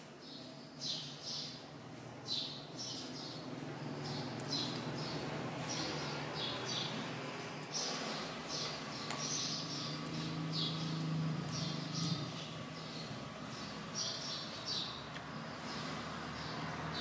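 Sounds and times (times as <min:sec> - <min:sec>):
bird chirping: 0:00.1 - 0:17.0.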